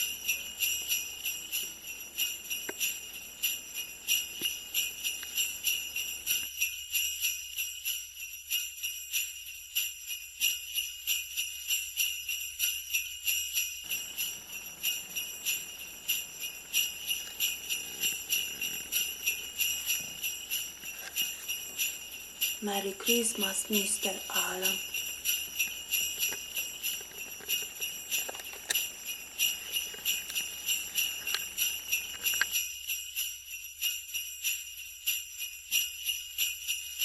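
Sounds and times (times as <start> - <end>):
sleigh bells shaken: 0.0 - 37.0.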